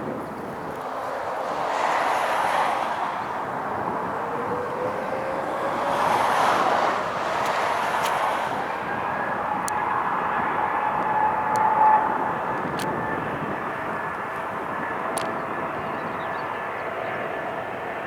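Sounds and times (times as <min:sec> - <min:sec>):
jet airliner engines rushing: 0:00.0 - 0:18.0.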